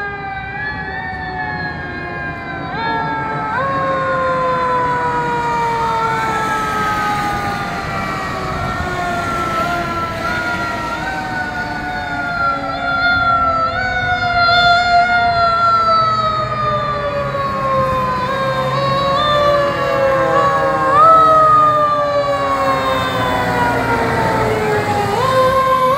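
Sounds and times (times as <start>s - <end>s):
fire engine sirens wailing: 0.0s - 25.9s.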